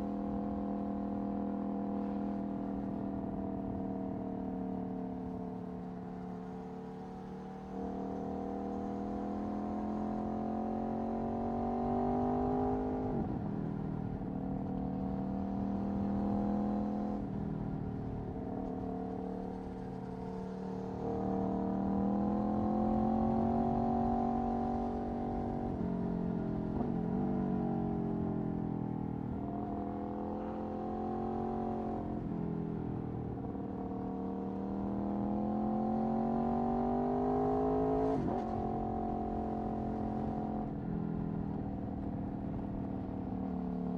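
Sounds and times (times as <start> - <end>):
motorcycle engine accelerating: 7.8 - 43.9.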